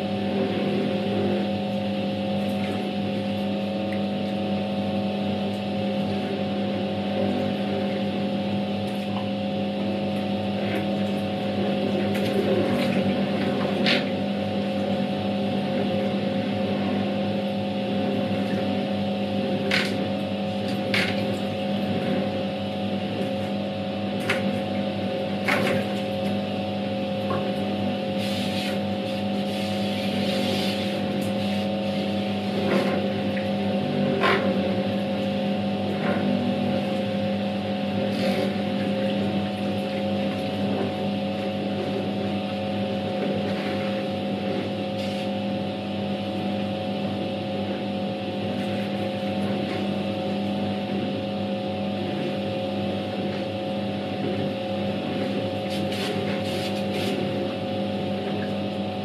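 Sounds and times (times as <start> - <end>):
impeller churning water: 0.0 - 59.0
washing machine motor humming: 0.0 - 59.0.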